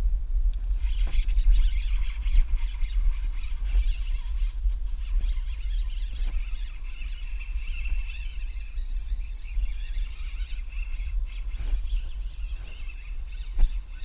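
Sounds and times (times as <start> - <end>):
wind rumble on microphone: 0.0 - 14.0
birds chirping: 0.6 - 14.0.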